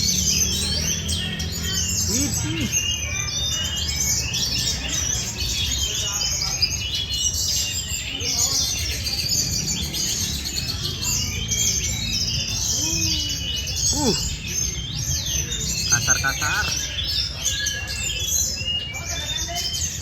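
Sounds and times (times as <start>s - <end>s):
low background murmur: 0.0s - 20.0s
songbird chorus: 0.0s - 20.0s.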